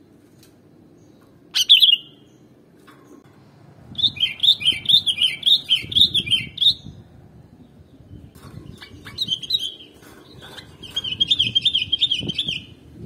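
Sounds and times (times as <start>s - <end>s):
bird chirping: 0.8s - 3.2s, 3.9s - 12.8s.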